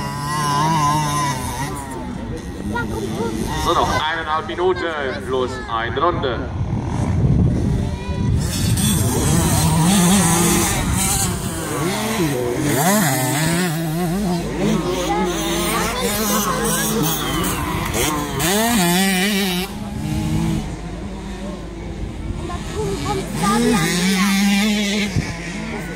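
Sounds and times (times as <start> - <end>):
motocross bikes racing: 0.0 - 25.9.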